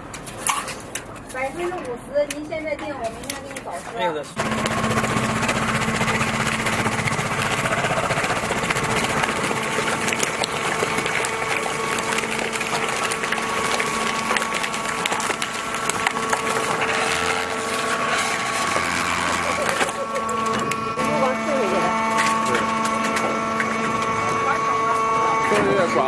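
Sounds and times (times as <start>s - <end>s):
hydraulic pump hum: 4.4s - 26.0s.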